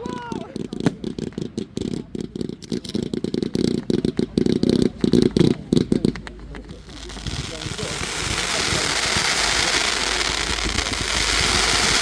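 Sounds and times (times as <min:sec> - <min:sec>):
fireworks popping and rumbling: 0:00.0 - 0:12.0.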